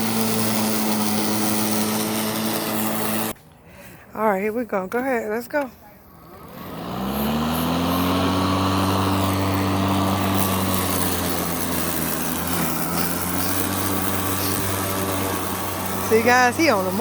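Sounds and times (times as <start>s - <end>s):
electric lawn mower motor: 0.0s - 3.4s, 6.1s - 17.0s.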